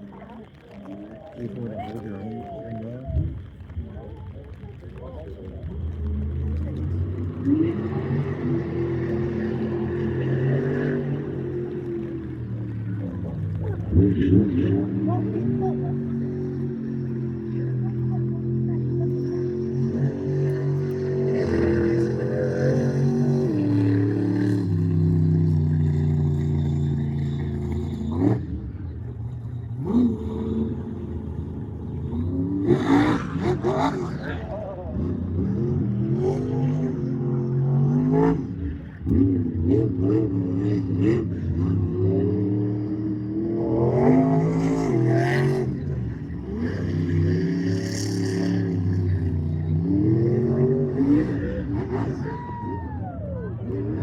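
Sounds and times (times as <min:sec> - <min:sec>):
truck engine revving: 0:04.9 - 0:54.0.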